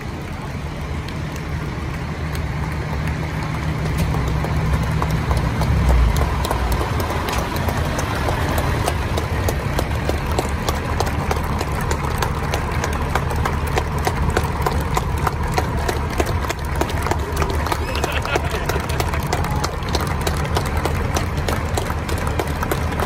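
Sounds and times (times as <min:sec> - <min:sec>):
handclaps: 0:00.0 - 0:23.0
truck engines idling: 0:00.0 - 0:23.0.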